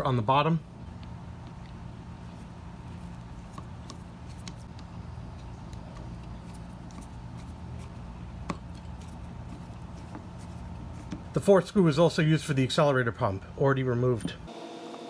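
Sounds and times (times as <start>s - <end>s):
steady low hum: 0.0s - 14.5s.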